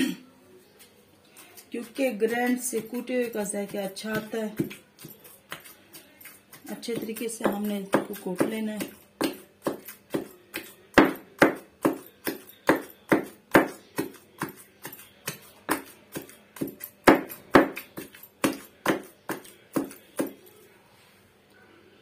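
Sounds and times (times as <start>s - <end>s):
pestle pounding in a mortar: 1.8s - 20.4s.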